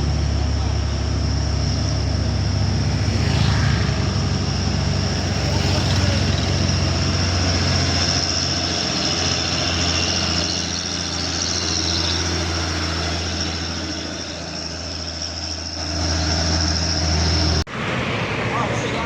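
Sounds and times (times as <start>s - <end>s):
high-pitched whine: 0.0s - 19.0s
truck engine humming: 0.0s - 19.0s.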